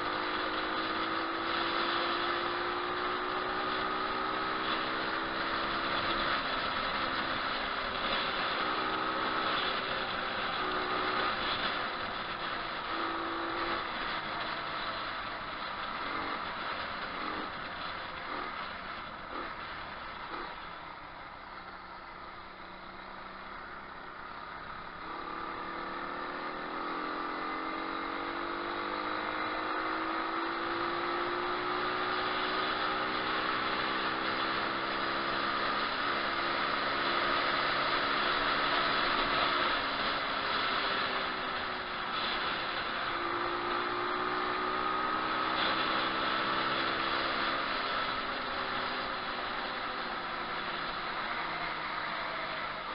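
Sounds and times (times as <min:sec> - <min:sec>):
motorbike engine revving: 0:00.0 - 0:20.7, 0:24.6 - 0:52.9
wind and road noise: 0:00.0 - 0:52.9.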